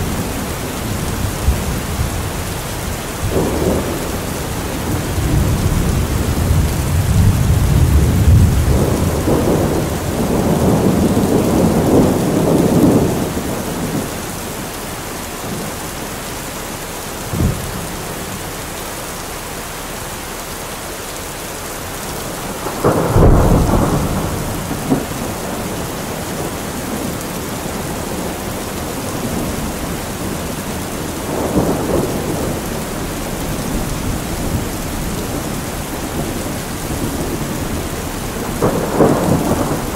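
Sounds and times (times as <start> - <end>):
thunder rumbling and cracking: 0.0 - 14.7, 17.1 - 18.4, 21.8 - 39.9
steady rainfall: 0.0 - 39.9.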